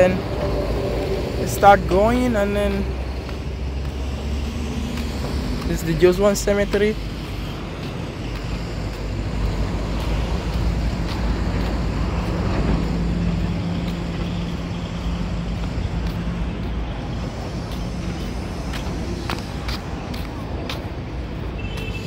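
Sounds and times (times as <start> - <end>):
vehicle passing close by: 0.0 - 20.6
low traffic rumble: 0.0 - 22.0.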